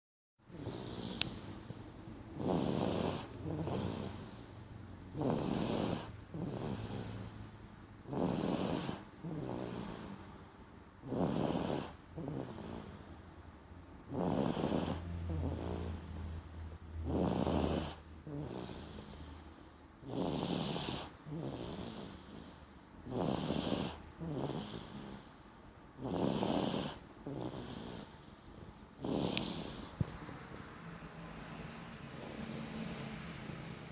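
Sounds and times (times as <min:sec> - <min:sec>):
baby snoring: 0:00.5 - 0:13.4, 0:14.0 - 0:33.9.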